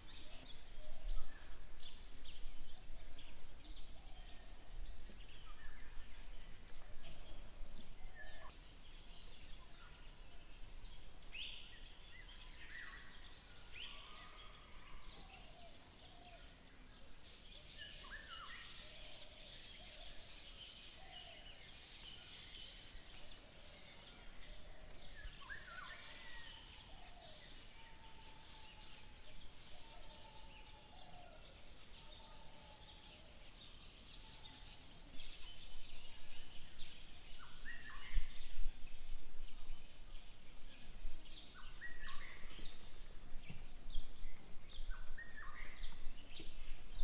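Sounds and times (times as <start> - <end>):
bird calls: 0.0 - 16.6, 17.3 - 38.6, 39.6 - 47.0.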